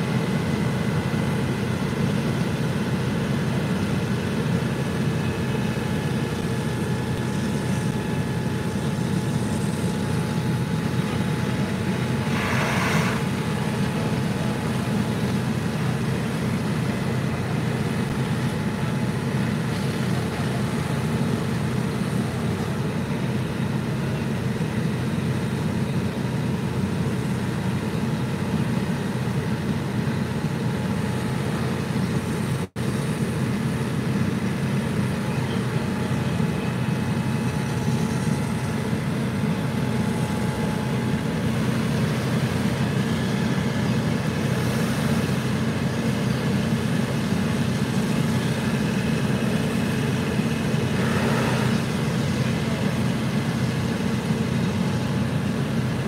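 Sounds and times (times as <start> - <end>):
fire engines droning: 0.0 - 56.0.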